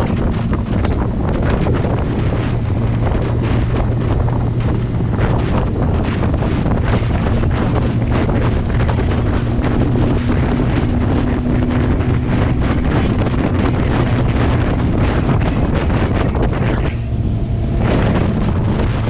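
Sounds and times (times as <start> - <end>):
motorcycle engine drone: 0.0 - 19.0
wind battering microphone: 0.0 - 19.0.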